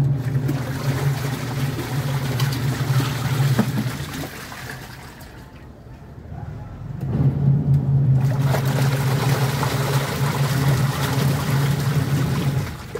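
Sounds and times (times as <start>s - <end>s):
water churning and splashing: 0.0s - 5.8s, 8.2s - 12.9s
washing machine motor hum: 0.0s - 6.2s, 6.8s - 12.9s.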